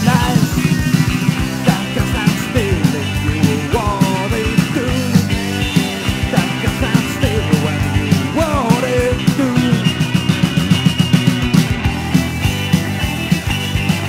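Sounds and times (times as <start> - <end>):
drums and bass: 0.0 - 14.0
electric guitar lead: 0.0 - 14.0.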